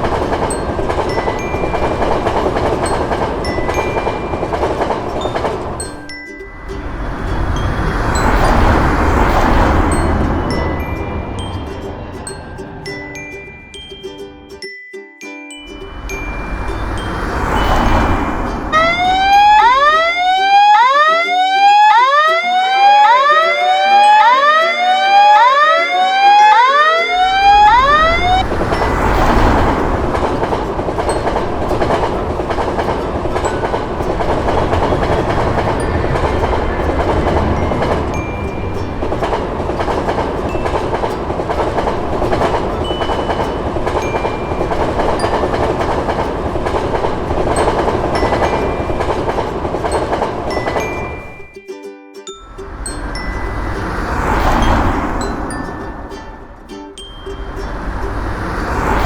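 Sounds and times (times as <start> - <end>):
overlapping sweeping tones: 0.0 - 14.6, 15.7 - 59.0
train passing: 0.0 - 14.7, 15.5 - 59.0.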